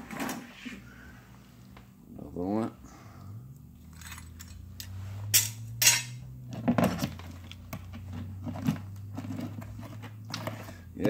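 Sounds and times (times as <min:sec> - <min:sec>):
low hum: 0:00.7 - 0:10.8.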